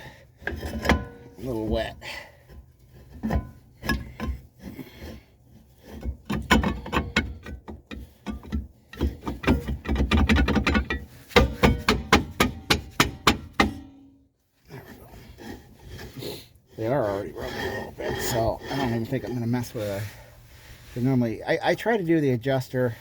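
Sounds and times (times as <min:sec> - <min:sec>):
metal clunks and scraping: 0:00.0 - 0:14.2, 0:14.8 - 0:21.1.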